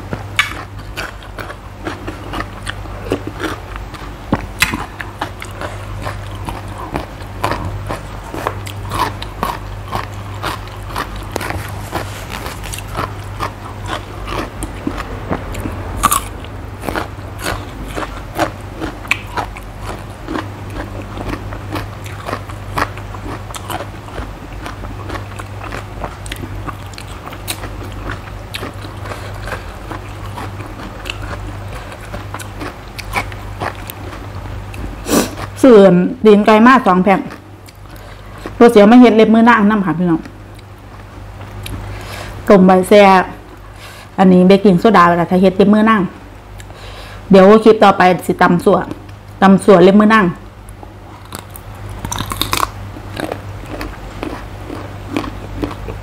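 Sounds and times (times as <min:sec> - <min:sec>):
chewing and crunching: 0:00.0 - 0:42.4, 0:50.6 - 0:56.0
steady low hum: 0:00.0 - 0:56.0.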